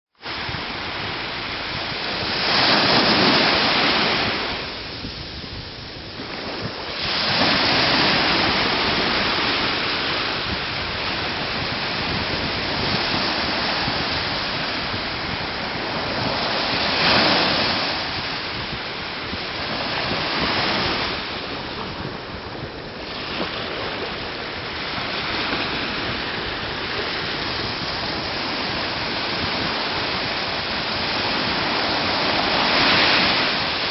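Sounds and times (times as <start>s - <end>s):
small waves washing over sand: 0.2s - 33.9s.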